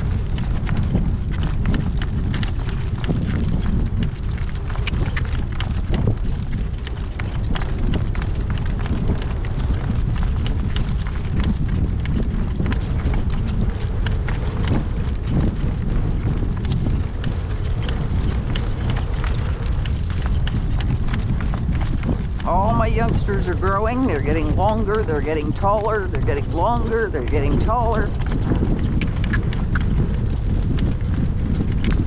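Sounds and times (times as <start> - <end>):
horse hooves clip-clopping: 0.0 - 32.0
wind buffeting microphone: 0.0 - 32.0.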